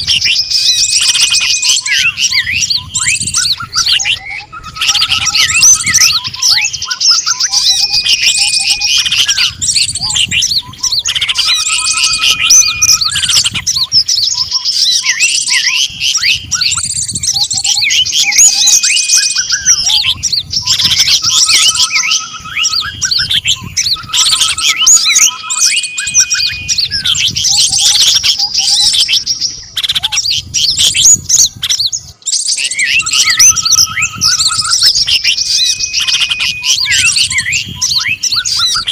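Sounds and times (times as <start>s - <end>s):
songbirds chirping and trilling: 0.0s - 38.9s
whistled bird calls: 0.0s - 38.9s.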